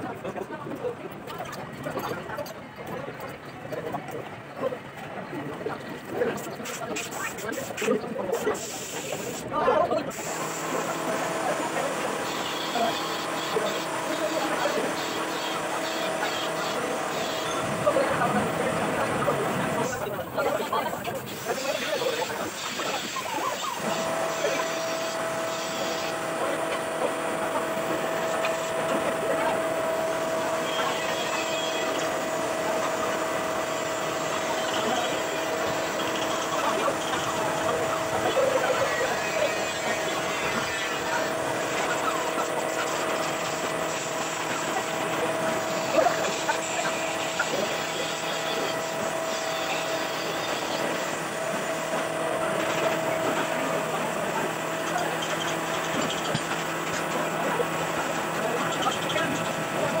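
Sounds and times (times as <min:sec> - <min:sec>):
workshop noise: 0:00.0 - 1:00.0
machine hum with whine: 0:10.0 - 1:00.0.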